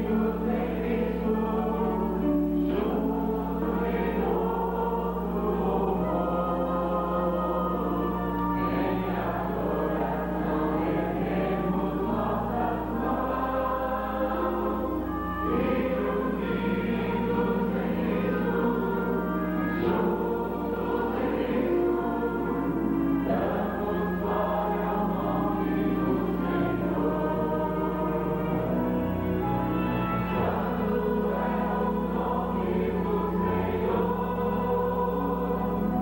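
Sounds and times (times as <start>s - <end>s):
congregation singing a hymn: 0.0s - 36.0s
steady low hum: 0.0s - 36.0s.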